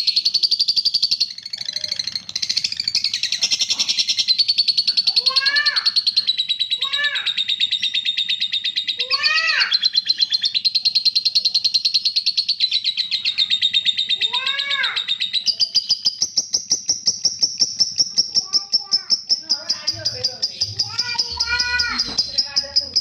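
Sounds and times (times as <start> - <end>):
songbird trilling song: 0.0 - 23.0.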